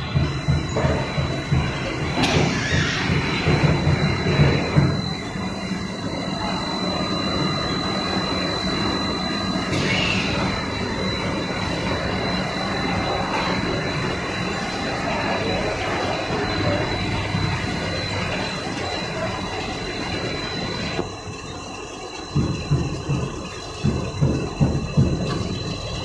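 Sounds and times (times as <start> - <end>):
frying line machinery running: 0.0 - 26.0
high whine: 0.0 - 26.0.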